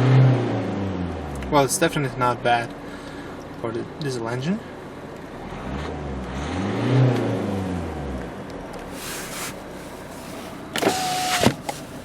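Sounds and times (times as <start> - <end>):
diesel engine revving and idling: 0.0 - 3.6, 4.7 - 12.0.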